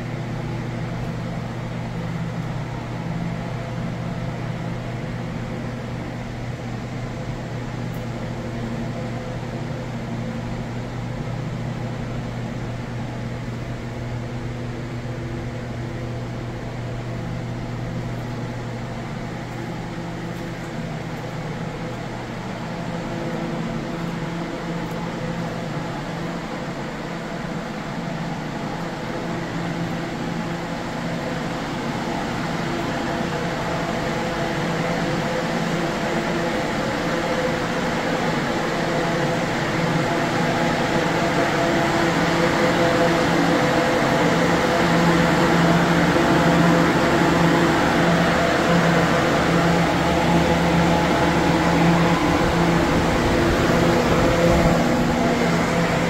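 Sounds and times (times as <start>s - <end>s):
ventilation fans humming: 0.0s - 56.0s.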